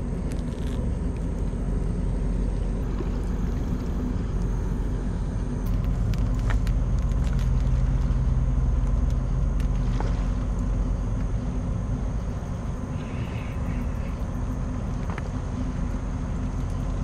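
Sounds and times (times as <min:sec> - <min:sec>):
ship diesel engine drone: 0:00.0 - 0:17.0.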